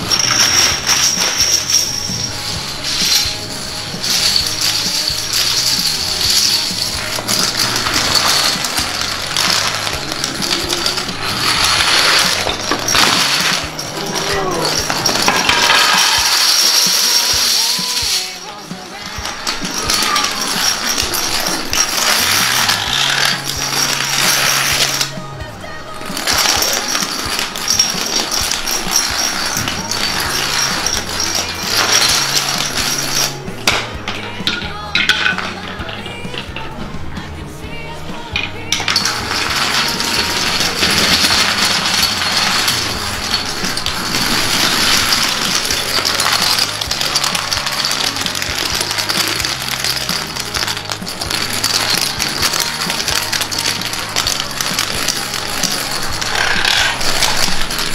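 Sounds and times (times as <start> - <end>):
plastic dominoes clattering: 0.0 - 36.9, 38.2 - 57.9.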